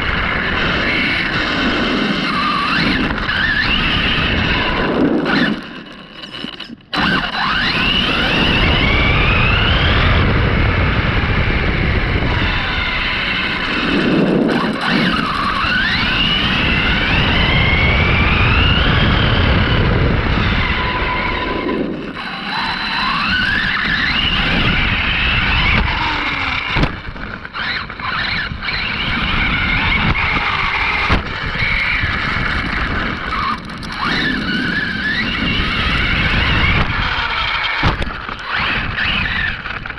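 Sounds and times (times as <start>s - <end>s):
electric motor whining: 0.0s - 39.9s
tyres rumbling on road: 0.0s - 39.9s.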